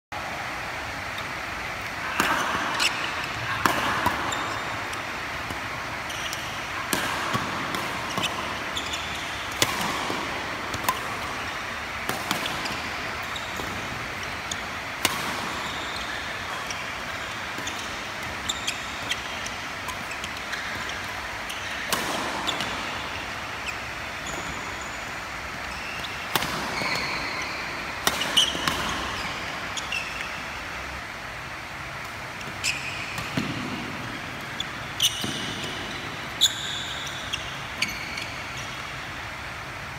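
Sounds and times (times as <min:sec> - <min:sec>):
steady background hiss: 0:00.2 - 0:39.9
racket hitting shuttlecock: 0:01.1 - 0:30.8, 0:31.7 - 0:37.8
shoes squeaking on court: 0:01.1 - 0:30.9, 0:32.4 - 0:39.1.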